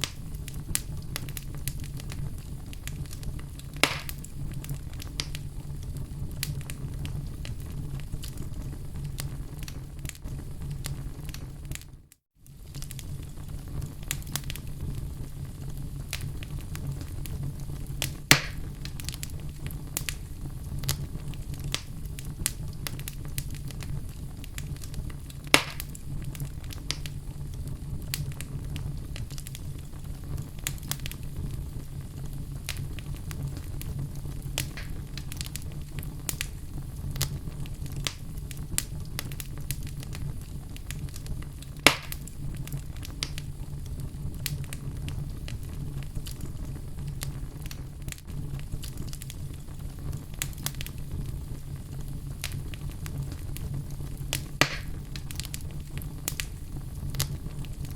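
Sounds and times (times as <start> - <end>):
fireplace fire crackling: 0.0 - 57.9
loud fire pops: 0.0 - 57.9
low fire rumble: 0.0 - 57.9.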